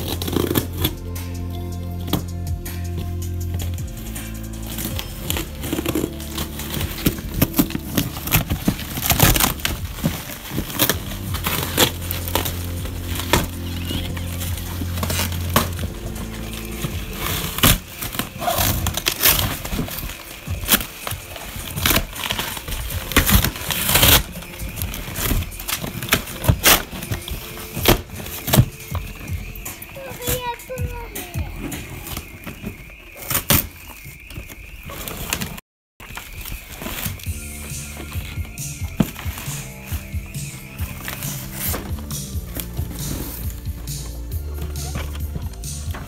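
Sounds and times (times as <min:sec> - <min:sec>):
cardboard and tape tearing: 0:00.0 - 0:01.4, 0:03.0 - 0:46.0.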